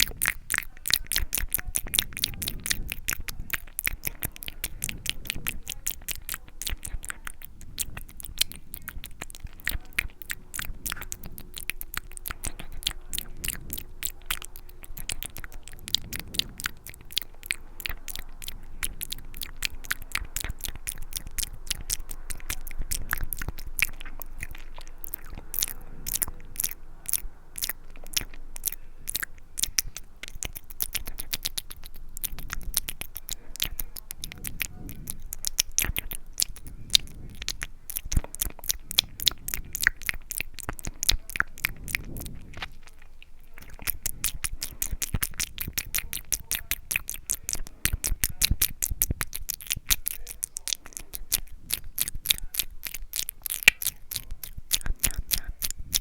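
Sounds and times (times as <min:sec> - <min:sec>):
wet mouth clicks and lip smacks: 0:00.0 - 0:56.0.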